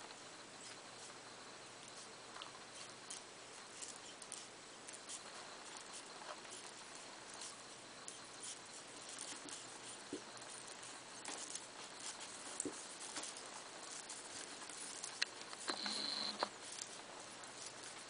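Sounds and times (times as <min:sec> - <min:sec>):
steady hiss: 0:00.0 - 0:18.0
small clicks and rustles: 0:01.8 - 0:18.0.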